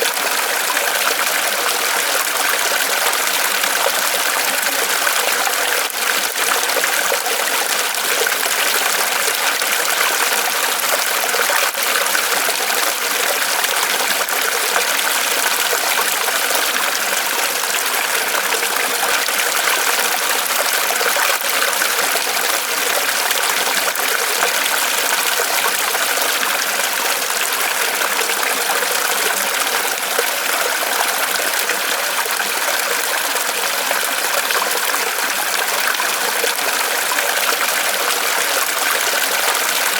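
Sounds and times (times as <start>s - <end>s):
water splashing from small waterfall: 0.0s - 39.9s.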